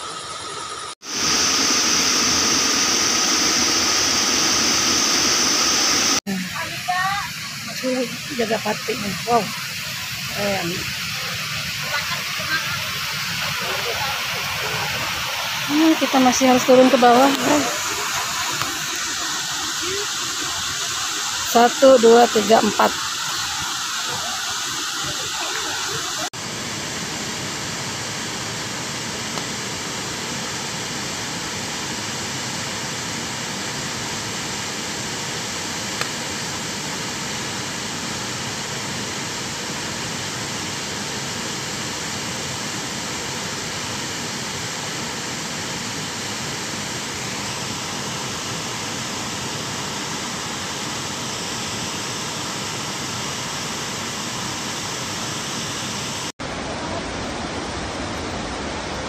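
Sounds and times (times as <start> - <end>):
waterfall rushing: 0.0 - 33.0, 36.8 - 59.0.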